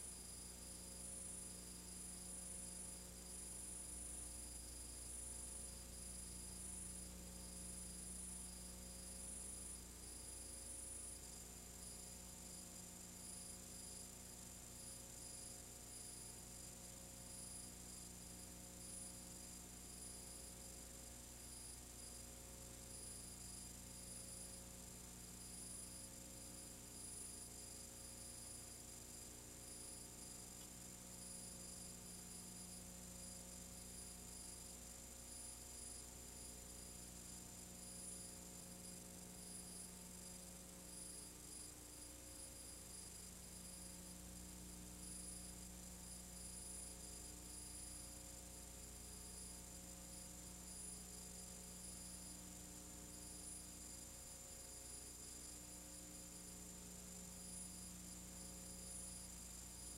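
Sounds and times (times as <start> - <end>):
faint mains hum: 0.0 - 59.9.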